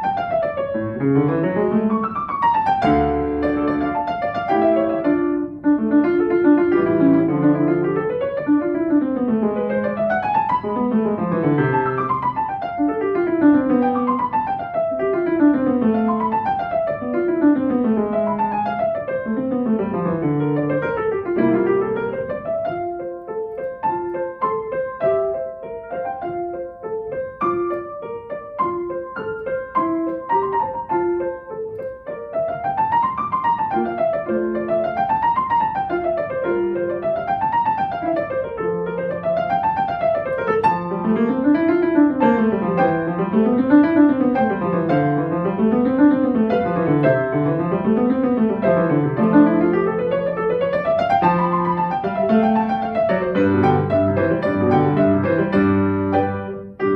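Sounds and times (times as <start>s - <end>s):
solo piano classical piece: 0.0s - 56.9s.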